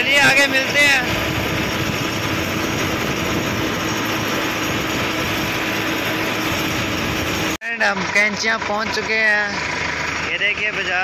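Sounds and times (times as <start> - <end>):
tractor engine drone: 0.0 - 11.0.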